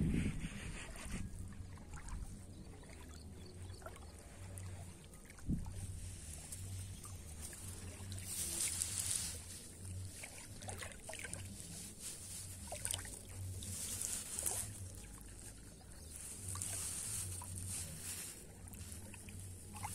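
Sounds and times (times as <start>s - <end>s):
boat engine low hum: 0.0s - 19.9s
water splashing along hull: 0.0s - 19.9s.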